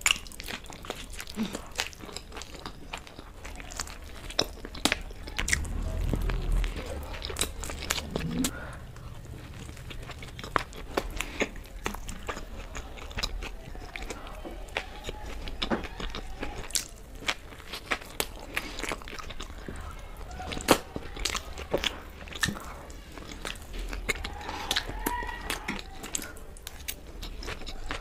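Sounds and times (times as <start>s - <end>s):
chewing and crunching: 0.0s - 28.0s.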